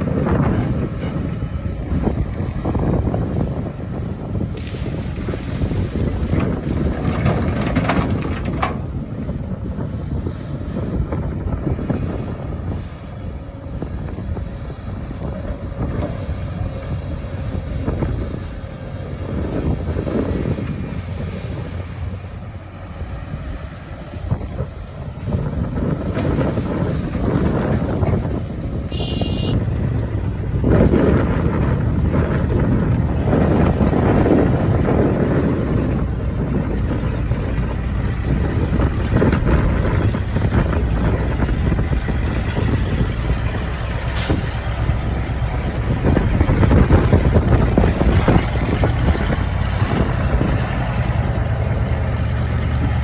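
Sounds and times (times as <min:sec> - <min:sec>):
excavator diesel engine rumbling: 0:00.0 - 0:53.0.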